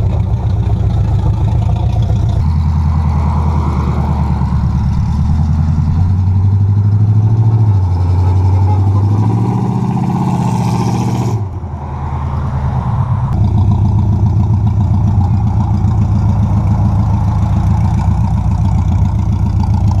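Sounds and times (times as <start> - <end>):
pickup truck engine revving: 0.0 - 20.0.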